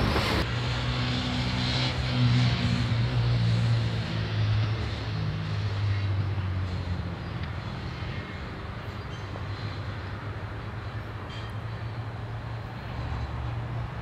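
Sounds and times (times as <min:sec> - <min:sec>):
locomotive engine drone: 0:00.0 - 0:14.0
train cars rumbling on rails: 0:00.0 - 0:14.0.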